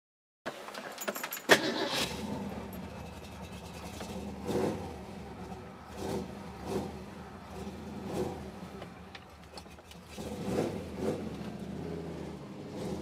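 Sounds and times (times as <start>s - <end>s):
car engine cranking and rumbling: 1.1s - 13.0s.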